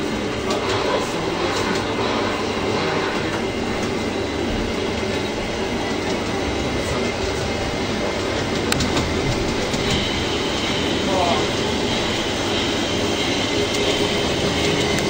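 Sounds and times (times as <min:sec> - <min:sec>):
model train wheels on rails: 0:00.0 - 0:15.0.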